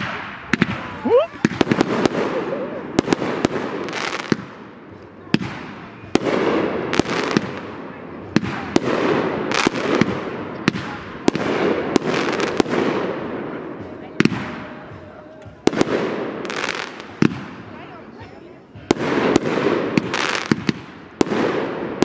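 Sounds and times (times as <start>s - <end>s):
fireworks crackling hiss: 0.0s - 22.0s.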